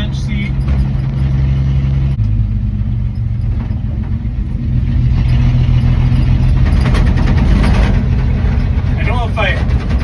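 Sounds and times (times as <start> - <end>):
pickup engine running: 0.0 - 10.0.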